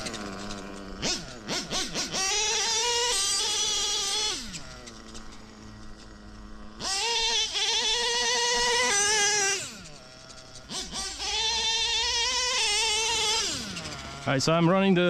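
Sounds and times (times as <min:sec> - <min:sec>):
nitro engine revving: 0:00.0 - 0:15.0.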